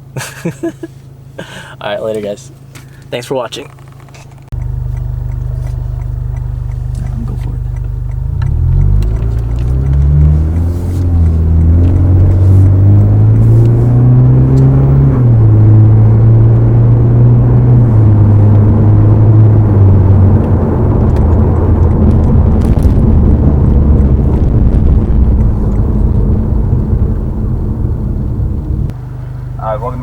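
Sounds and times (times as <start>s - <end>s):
car engine accelerating: 2.2s - 30.0s.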